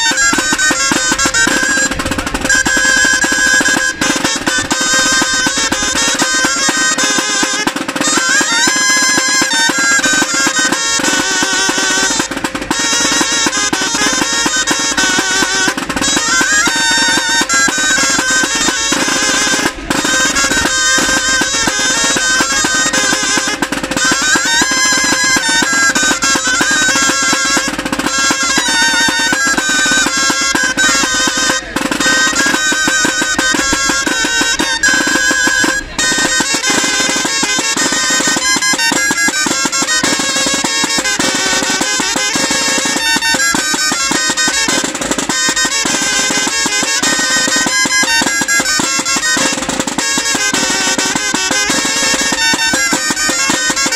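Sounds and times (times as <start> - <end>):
drums keeping a steady beat: 0.0 - 53.9
wind instruments playing melody: 0.0 - 53.9.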